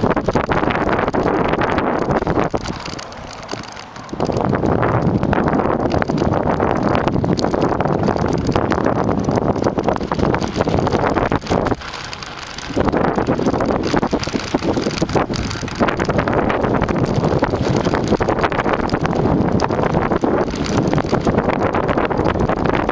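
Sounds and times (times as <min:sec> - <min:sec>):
bike rattling over bumpy ground: 0:00.0 - 0:22.9
wind buffeting microphone: 0:00.0 - 0:22.9.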